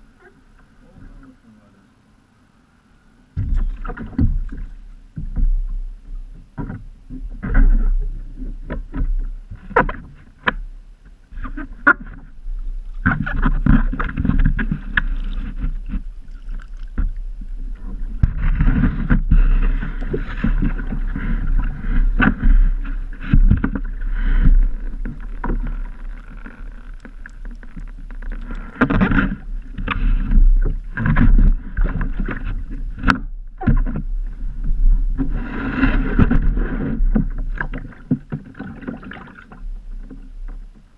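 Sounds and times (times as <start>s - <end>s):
kayak hull scraping on wooden dock: 3.4s - 40.9s.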